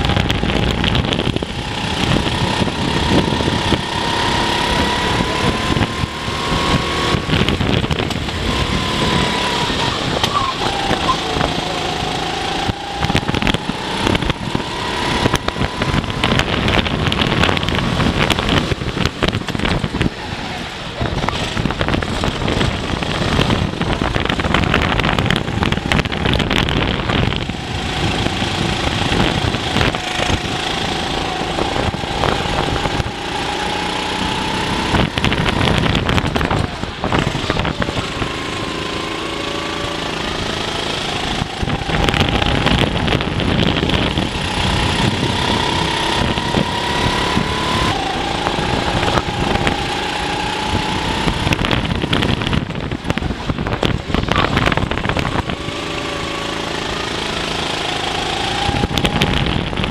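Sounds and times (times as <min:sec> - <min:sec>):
racing kart engine revving: 0:00.0 - 0:59.9.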